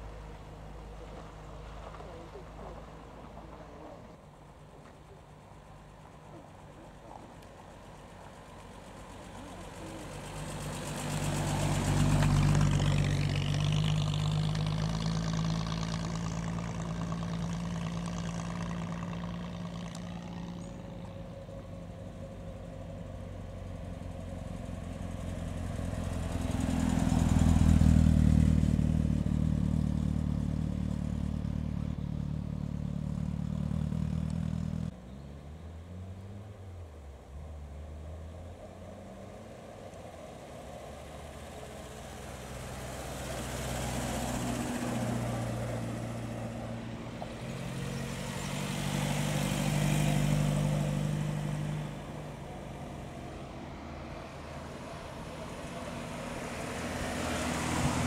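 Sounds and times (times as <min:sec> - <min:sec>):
car engine hum passing: 0:00.0 - 0:58.0.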